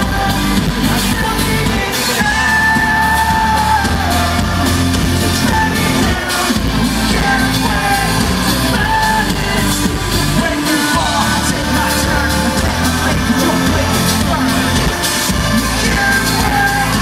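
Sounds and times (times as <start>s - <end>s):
lead singer singing: 0.0s - 17.0s
live rock band playing: 0.0s - 17.0s
steady drum beat: 0.0s - 17.0s.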